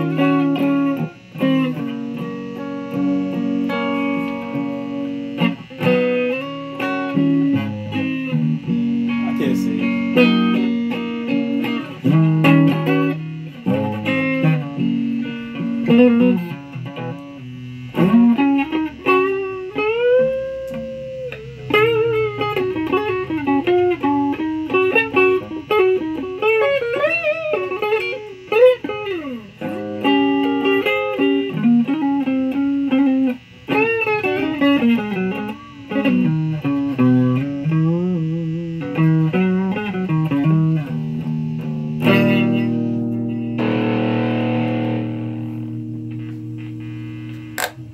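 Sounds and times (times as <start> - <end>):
bluesy electric guitar lead: 0.0 - 47.9.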